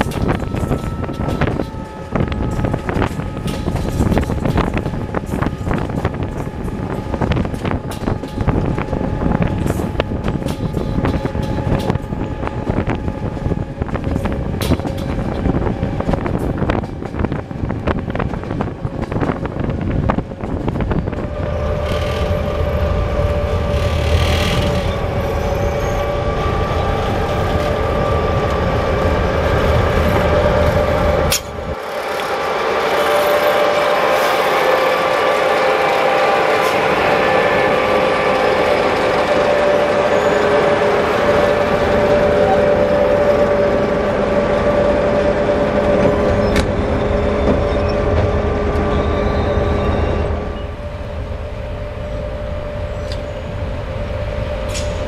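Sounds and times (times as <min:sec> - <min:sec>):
diesel engine droning: 0:00.0 - 0:55.0
train running noise and wind: 0:00.0 - 0:55.0
wheels clicking on track: 0:00.0 - 0:55.0.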